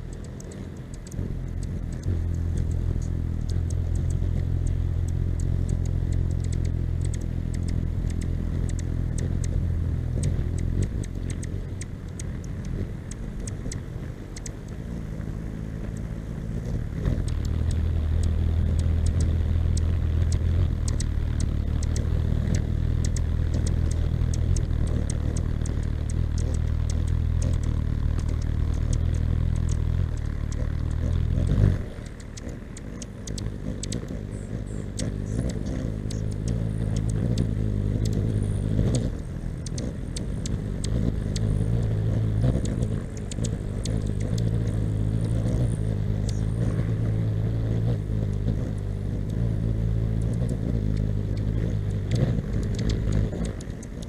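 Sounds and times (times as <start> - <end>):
hummingbird wings humming: 0.0 - 54.0.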